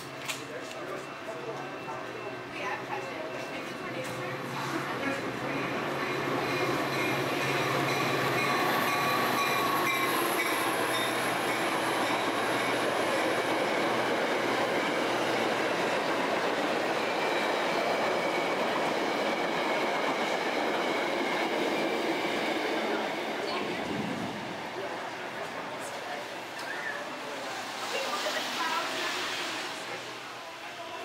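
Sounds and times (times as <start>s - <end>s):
train wheels rushing on rail: 0.0s - 31.0s.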